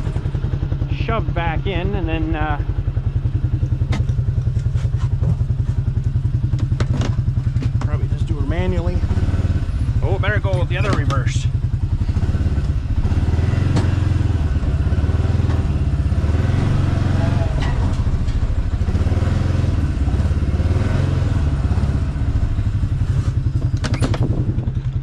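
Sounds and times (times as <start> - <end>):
truck engine low throb: 0.0 - 25.0.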